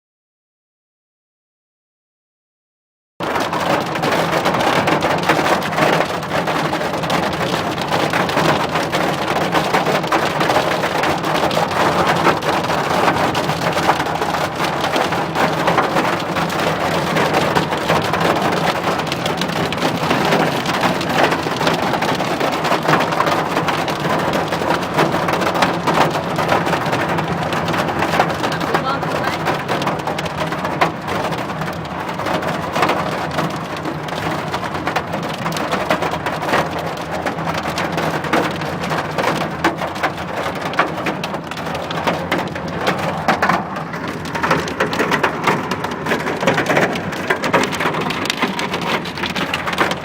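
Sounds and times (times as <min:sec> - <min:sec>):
heavy rain and hail pelting: 0:03.2 - 0:50.0.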